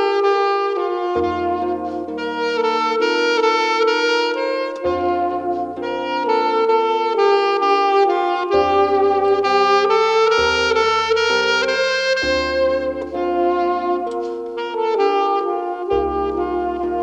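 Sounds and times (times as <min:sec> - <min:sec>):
bass accompaniment: 0:00.0 - 0:17.0
saxophone slow melody: 0:00.0 - 0:17.0.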